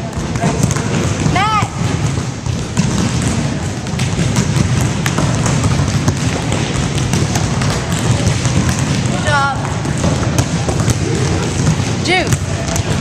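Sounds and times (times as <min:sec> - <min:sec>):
echoing gym clamour: 0:00.0 - 0:13.0
volleyballs hit and bouncing: 0:00.0 - 0:13.0.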